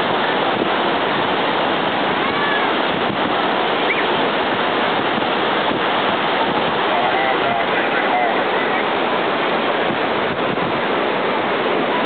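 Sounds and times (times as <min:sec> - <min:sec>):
surf breaking on beach: 0:00.0 - 0:12.0
wind on microphone: 0:00.0 - 0:12.0.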